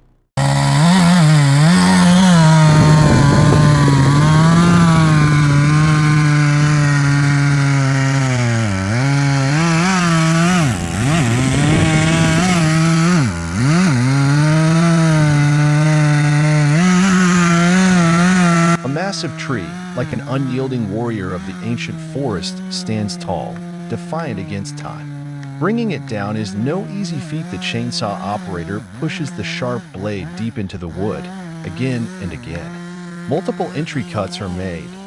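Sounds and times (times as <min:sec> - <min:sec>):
chainsaw running at high revs: 0:00.2 - 0:35.0.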